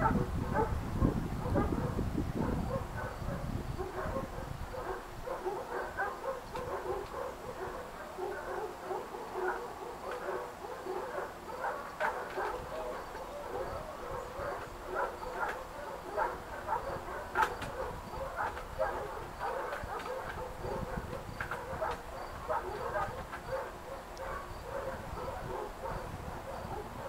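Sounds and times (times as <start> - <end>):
dogs barking and yipping: 0.0 - 27.0
dogs yelping: 1.4 - 27.0.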